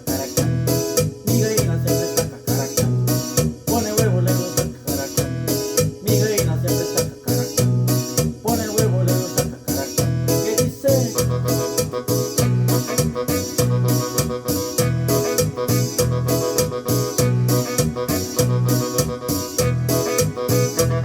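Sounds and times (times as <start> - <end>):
drum rhythm: 0.0 - 21.0
keyboard solo melody: 0.0 - 21.0
repeating bass line: 0.0 - 21.0.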